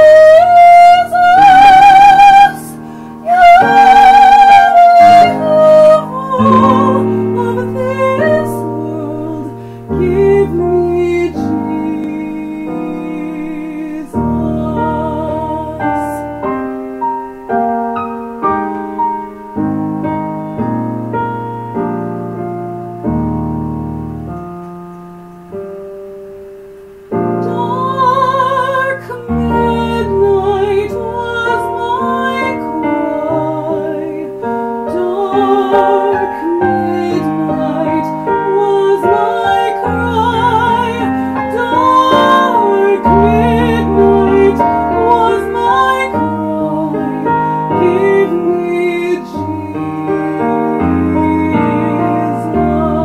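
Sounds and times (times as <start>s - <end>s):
woman singing soprano with vibrato: 0.0s - 16.7s, 27.2s - 53.0s
piano: 0.0s - 53.0s.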